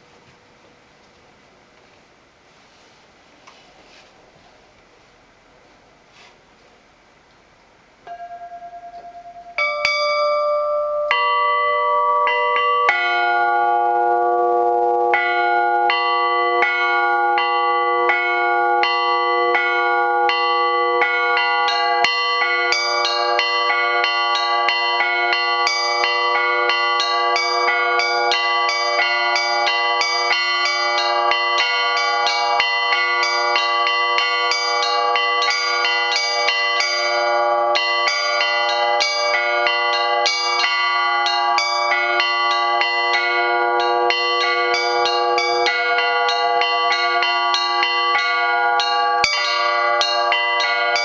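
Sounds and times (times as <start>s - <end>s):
small bells striking: 8.0s - 51.0s
low bell ringing: 8.1s - 51.0s
peal of ringing bells: 8.1s - 51.0s.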